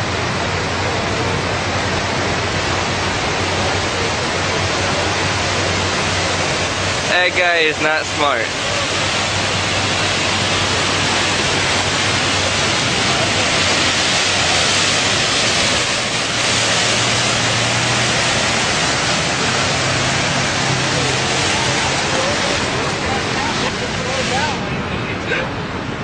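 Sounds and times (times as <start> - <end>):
ocean surf rushing: 0.0 - 26.0.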